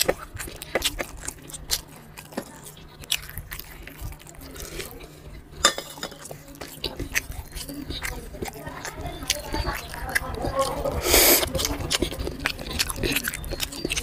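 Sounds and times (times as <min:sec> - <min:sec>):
chewing: 0:00.0 - 0:14.0
hand mixing rice on steel plate: 0:00.0 - 0:14.0.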